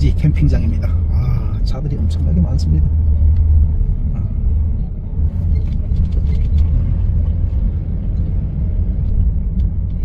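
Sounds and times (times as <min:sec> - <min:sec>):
vehicle engine and tyre rumble: 0:00.0 - 0:10.0.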